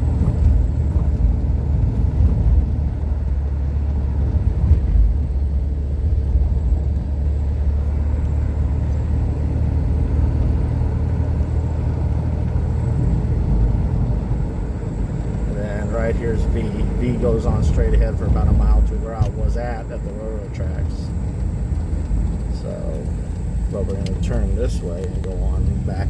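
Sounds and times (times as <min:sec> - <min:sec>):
car driving heard from cabin: 0:00.0 - 0:26.0.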